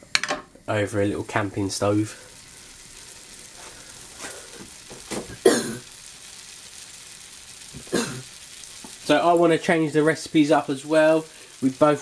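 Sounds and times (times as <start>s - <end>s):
butter sizzling in pan: 0.2s - 12.0s.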